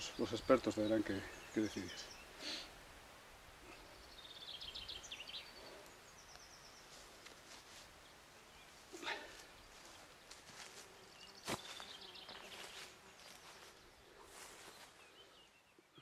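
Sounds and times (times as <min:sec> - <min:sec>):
small bird singing: 0:00.0 - 0:02.7, 0:03.6 - 0:07.2, 0:08.0 - 0:16.0.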